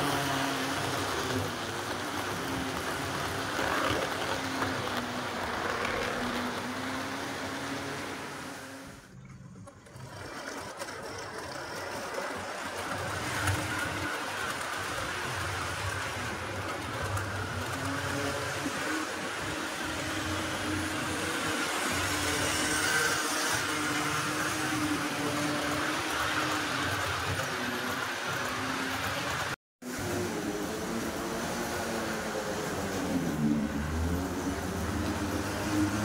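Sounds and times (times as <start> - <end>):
model train wheels rattling on rails: 0.0 - 36.0.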